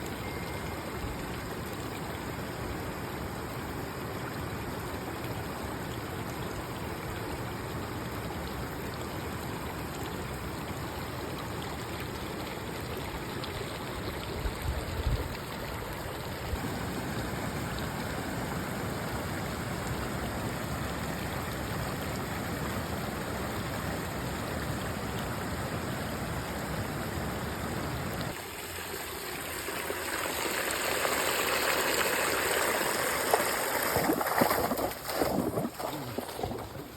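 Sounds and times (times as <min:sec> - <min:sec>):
flowing water rushing: 0:00.0 - 0:36.9.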